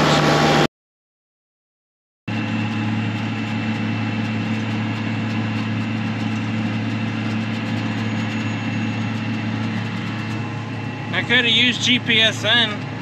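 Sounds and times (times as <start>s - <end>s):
tractor diesel engine running: 0.0s - 0.7s, 2.3s - 13.0s.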